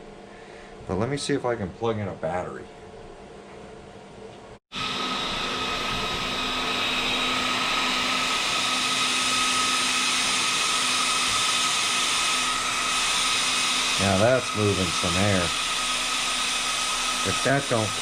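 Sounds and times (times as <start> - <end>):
small cooling fans whirring: 0.0 - 18.0.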